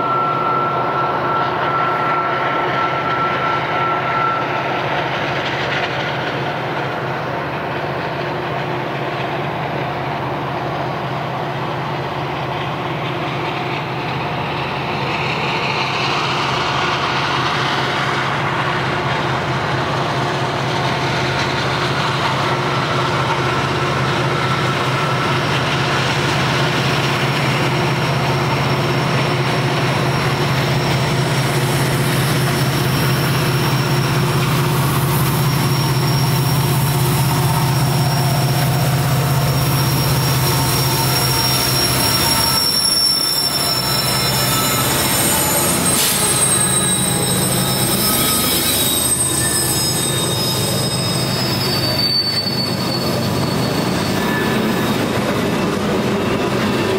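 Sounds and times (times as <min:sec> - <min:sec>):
high-pitched wheel squeal: 0:00.0 - 0:07.5, 0:13.1 - 0:56.9
diesel locomotive engine rumble: 0:00.0 - 0:56.9.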